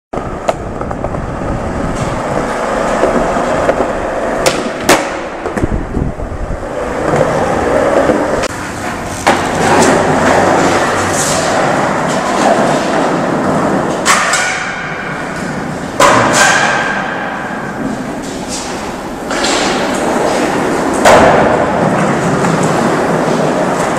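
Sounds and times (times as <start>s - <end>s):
skateboard wheels rolling on concrete: 0.1s - 23.9s
skateboard clacking on concrete: 0.2s - 1.3s, 2.4s - 5.8s, 7.0s - 23.9s.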